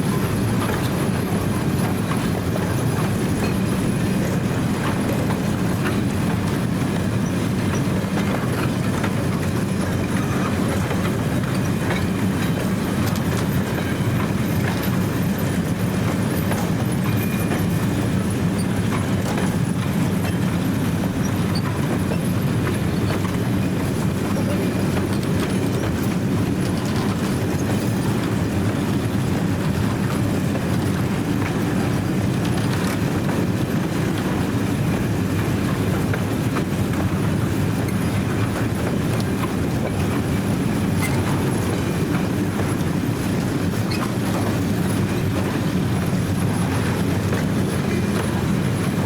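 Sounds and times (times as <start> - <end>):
train rumbling on rails: 0.0 - 49.0.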